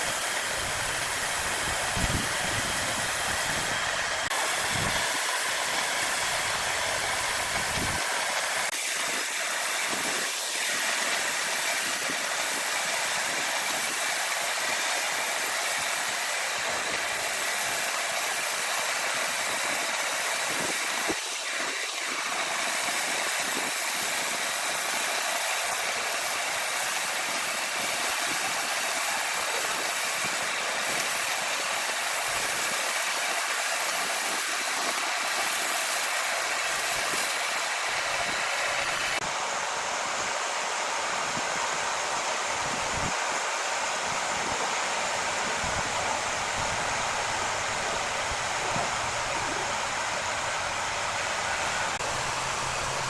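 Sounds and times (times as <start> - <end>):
saw whines: 0.0 - 53.0
sawmill saw running: 0.0 - 53.0.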